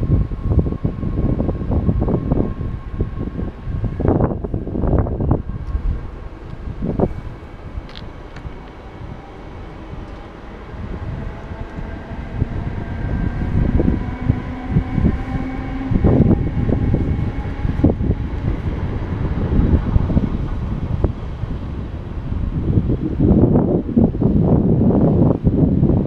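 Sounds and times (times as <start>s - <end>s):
train rumble: 0.0s - 26.0s
wind buffeting microphone: 0.0s - 26.0s.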